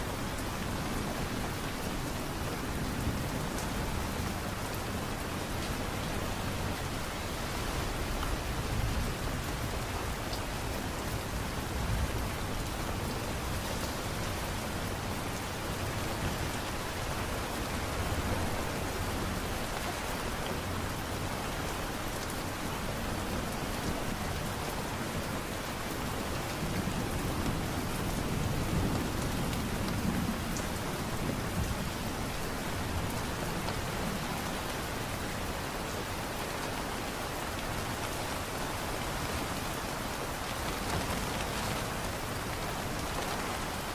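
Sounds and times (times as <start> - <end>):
light rain patter: 0.0 - 43.9.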